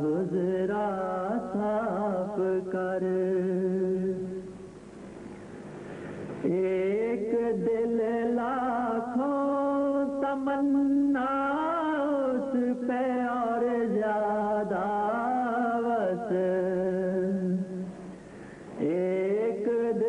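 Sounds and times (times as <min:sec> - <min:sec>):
man singing devotional song: 0:00.0 - 0:04.7, 0:06.4 - 0:20.0.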